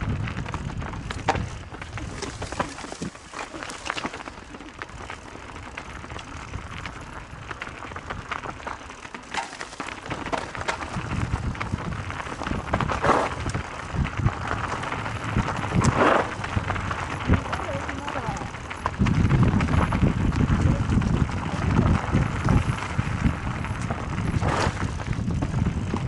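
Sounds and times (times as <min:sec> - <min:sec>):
bike clicks and rattles: 0:00.0 - 0:26.0
bike tyres on dirt trail: 0:00.0 - 0:26.0.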